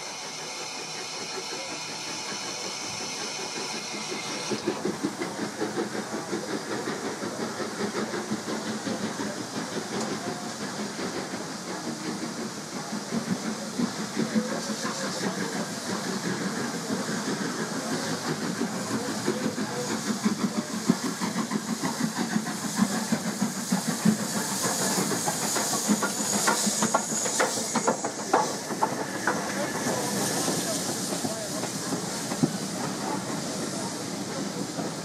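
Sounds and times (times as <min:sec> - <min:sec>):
hissing steam: 0:00.0 - 0:35.0
steam locomotive exhaust beats: 0:00.0 - 0:35.0.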